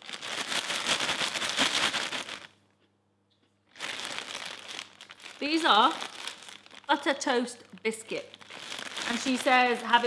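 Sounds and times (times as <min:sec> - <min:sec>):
plastic packaging crinkling: 0:00.0 - 0:02.8, 0:03.6 - 0:10.0.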